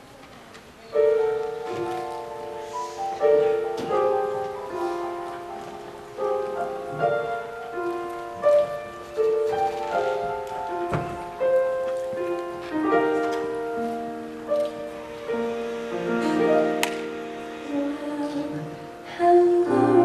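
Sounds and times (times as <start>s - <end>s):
piano playing slow chords: 0.9s - 20.0s.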